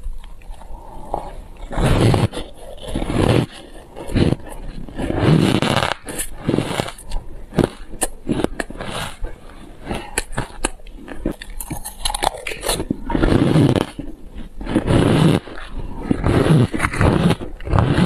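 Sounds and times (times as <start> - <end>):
chewing and crunching ice: 0.0 - 18.0.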